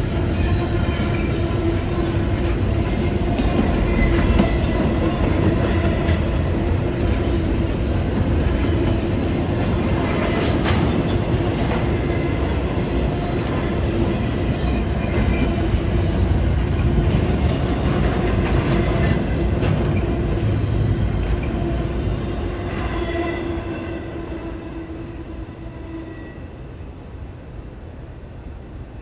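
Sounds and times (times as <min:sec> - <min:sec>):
freight train rumble and wheel clatter: 0:00.0 - 0:29.0.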